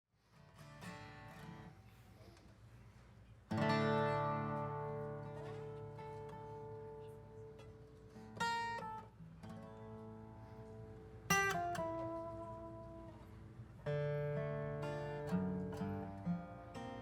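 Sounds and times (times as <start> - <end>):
acoustic guitar: 0.2 - 17.0.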